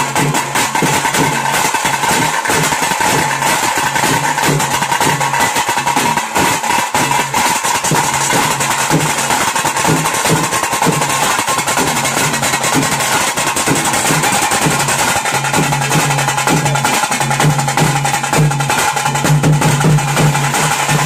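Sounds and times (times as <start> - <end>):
deeper repeating drumbeat: 0.0 - 21.0
rapid drumming: 0.0 - 21.0.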